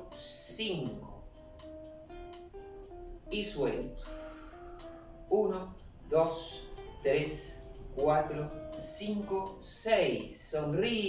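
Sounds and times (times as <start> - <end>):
plucked guitar melody: 0.0 - 11.0.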